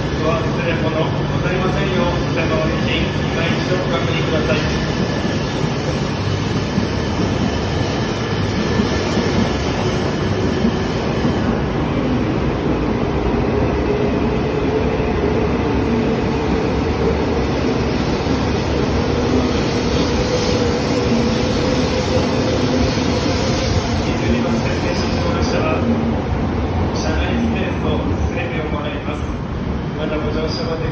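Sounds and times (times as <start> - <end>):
train running rumble: 0.0 - 30.9.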